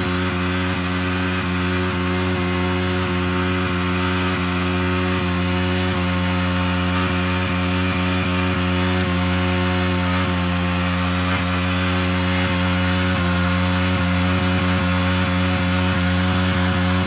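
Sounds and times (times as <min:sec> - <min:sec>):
motorcycle engine at steady revs: 0:00.0 - 0:17.0.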